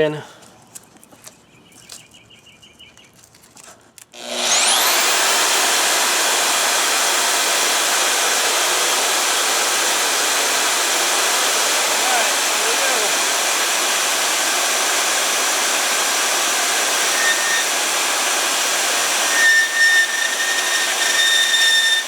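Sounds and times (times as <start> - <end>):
bandsaw sawing metal: 4.2 - 22.0.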